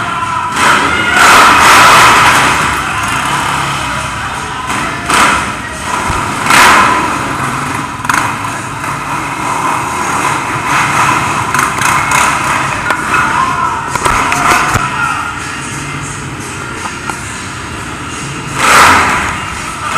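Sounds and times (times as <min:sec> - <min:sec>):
atv engines revving: 0:00.0 - 0:19.9.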